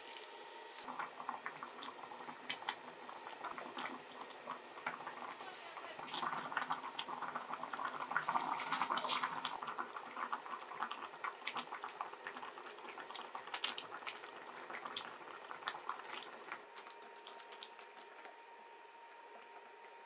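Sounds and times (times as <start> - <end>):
stew bubbling and popping: 0.8 - 20.0.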